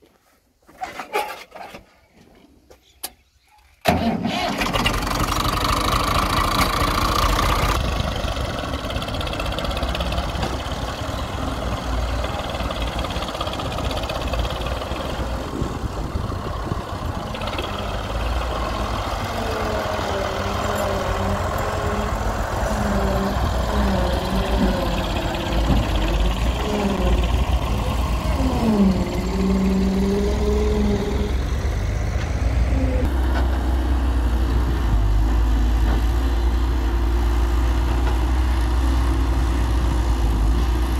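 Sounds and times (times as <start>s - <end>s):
diesel tractor engine running: 3.9s - 40.9s.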